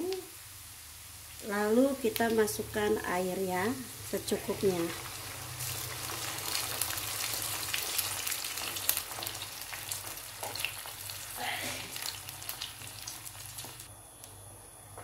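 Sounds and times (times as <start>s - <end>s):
hot oil sizzling and crackling: 0.0s - 13.9s.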